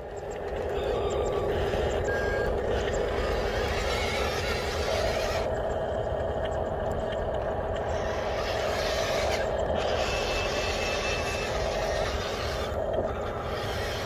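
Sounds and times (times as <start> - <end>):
electric motor and gears whining: 0.0 - 14.0
low rumbling: 0.0 - 14.0.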